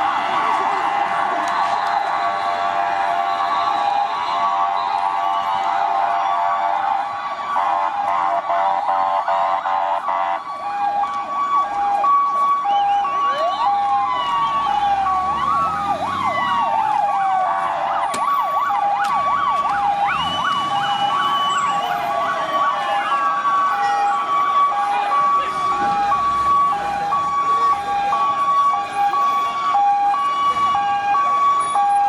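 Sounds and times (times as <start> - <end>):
two-tone siren: 0.0 - 32.0
wailing sirens: 0.0 - 32.0
yelping sirens: 0.0 - 32.0.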